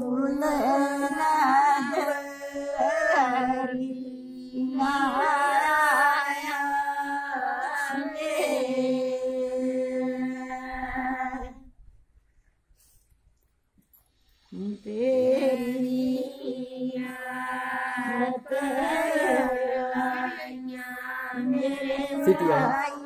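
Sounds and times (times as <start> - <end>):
women singing unaccompanied: 0.0 - 11.7, 14.5 - 23.0.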